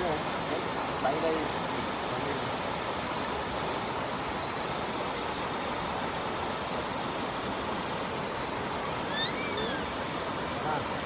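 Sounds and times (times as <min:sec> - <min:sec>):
stream babbling over rocks: 0:00.0 - 0:11.0.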